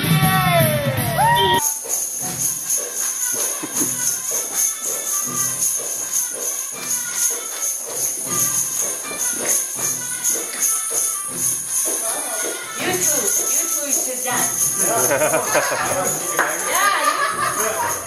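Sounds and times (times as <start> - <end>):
shaken jingling percussion: 0.0 - 18.0.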